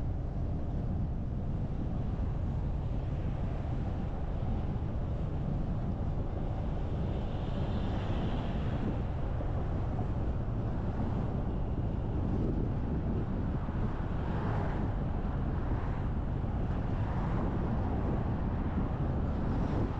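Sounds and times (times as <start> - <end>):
car road and wind noise: 0.0 - 19.9.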